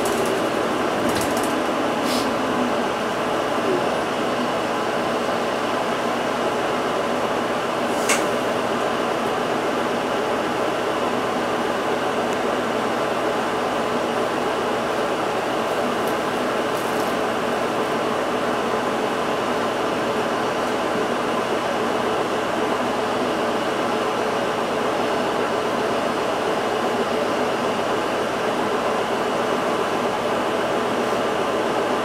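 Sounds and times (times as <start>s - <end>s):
bus interior hum and whir: 0.0s - 32.0s.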